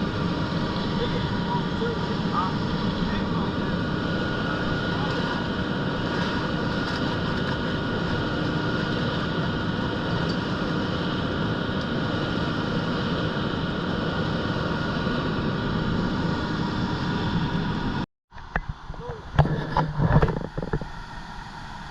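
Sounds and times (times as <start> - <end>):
constant whine: 0.0 - 21.9
diesel engine running: 0.0 - 21.9.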